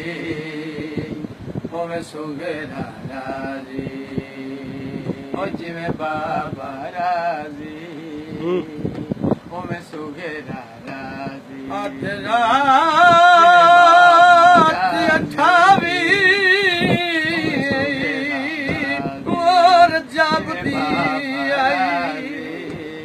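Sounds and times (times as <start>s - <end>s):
man singing with vibrato: 0.0s - 23.0s.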